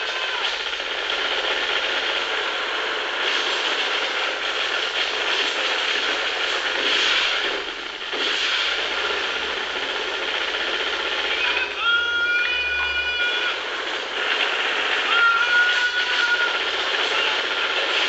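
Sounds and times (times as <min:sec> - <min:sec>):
minigun rapid fire: 0:00.0 - 0:18.0.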